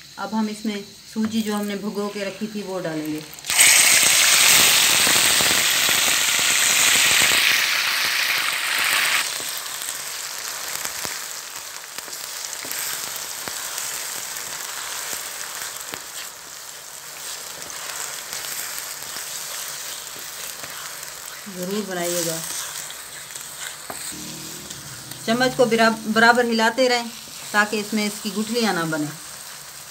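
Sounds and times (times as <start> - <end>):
wet semolina sizzling in hot oil: 0.0 - 29.9.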